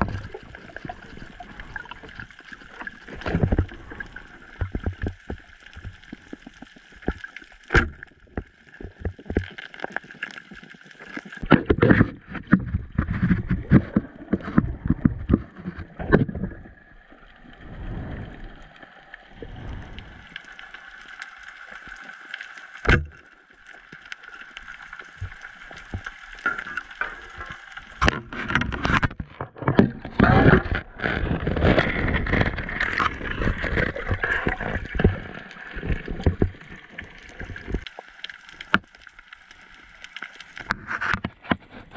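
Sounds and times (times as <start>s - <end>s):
muffled underwater water rushing: 0.0s - 41.9s.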